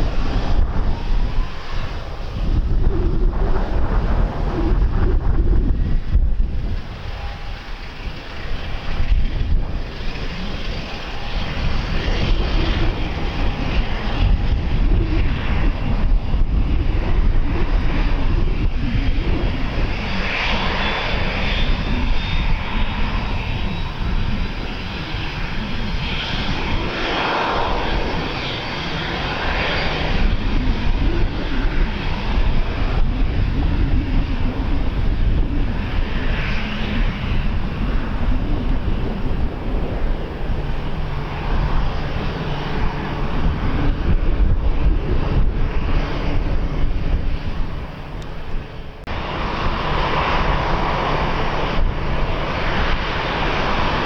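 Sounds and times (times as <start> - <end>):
airliner engines running: 0.0 - 54.0
wind buffeting microphone: 0.0 - 54.0.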